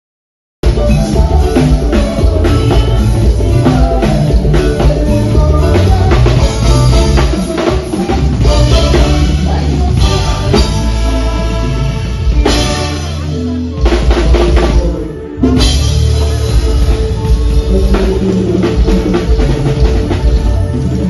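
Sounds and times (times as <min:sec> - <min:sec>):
live band playing: 0:00.6 - 0:21.0
loud drum kit: 0:00.6 - 0:21.0.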